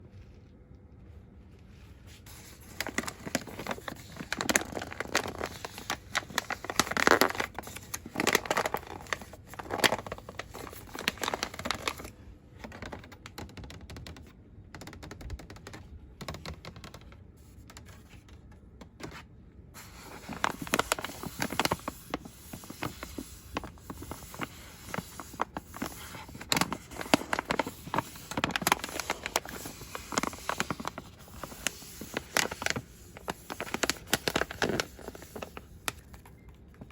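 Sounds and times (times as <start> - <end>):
fingers crinkling packaging: 2.3 - 17.1, 19.8 - 36.9.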